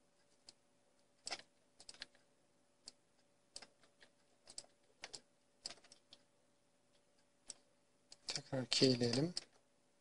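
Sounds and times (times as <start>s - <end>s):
faint steady hum: 0.0s - 10.0s
computer keyboard and mouse clicking: 0.2s - 6.3s, 6.9s - 9.7s.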